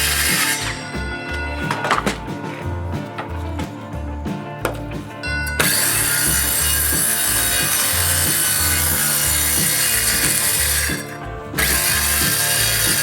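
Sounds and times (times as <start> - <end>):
saw cutting wooden board: 0.0 - 3.3, 5.5 - 13.0.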